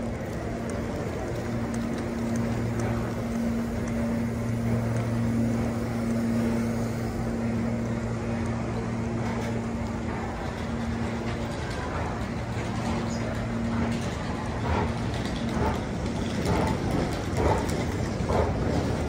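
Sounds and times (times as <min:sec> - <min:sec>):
large hall background noise: 0:00.0 - 0:19.0
low machine hum: 0:00.0 - 0:19.0.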